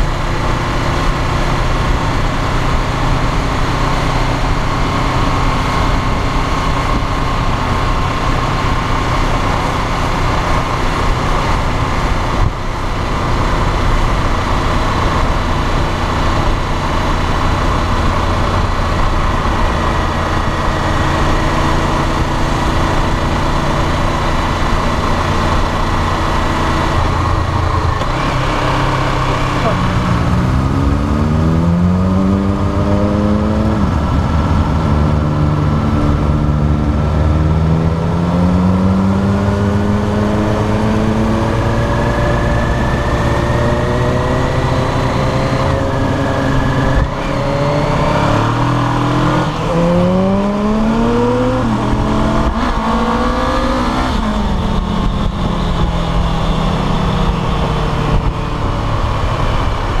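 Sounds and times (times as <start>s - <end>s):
motorcycle engine revving: 0.0s - 60.0s
wind and road noise: 0.0s - 60.0s.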